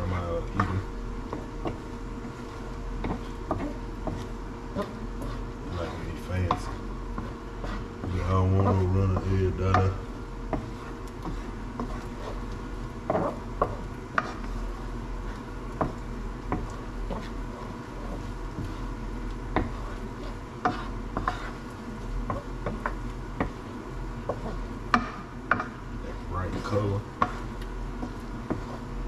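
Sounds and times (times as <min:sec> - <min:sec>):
faint steady sizzle: 0:00.0 - 0:29.0
wooden spoon scraping pan: 0:00.0 - 0:29.0.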